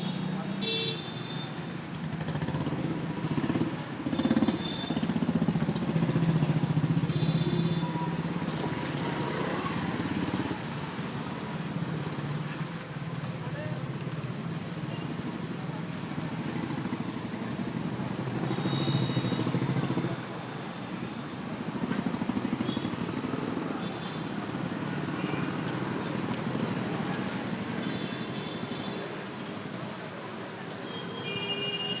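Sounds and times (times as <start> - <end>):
traffic rumble: 0.0 - 31.0
vehicles passing: 0.0 - 31.3.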